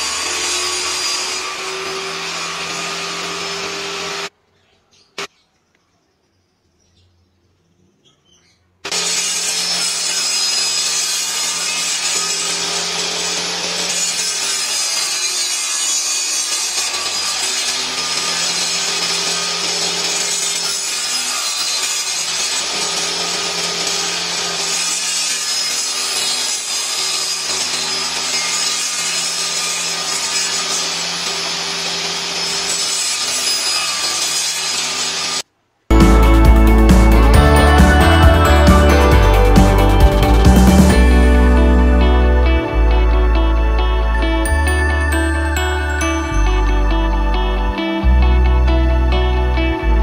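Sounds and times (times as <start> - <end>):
table saw cutting wood: 0.0 - 4.3, 8.9 - 50.0.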